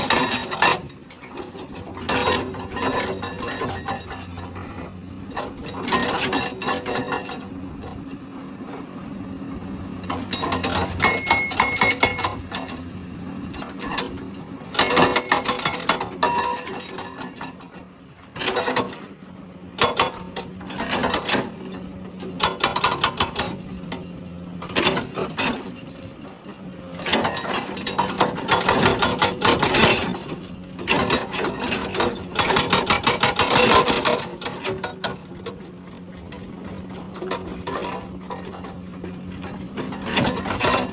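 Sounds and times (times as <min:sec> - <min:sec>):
hydraulic breaker hammering rock: 0:00.0 - 0:08.1, 0:10.0 - 0:12.9, 0:13.5 - 0:40.9
diesel engine running: 0:00.0 - 0:40.9.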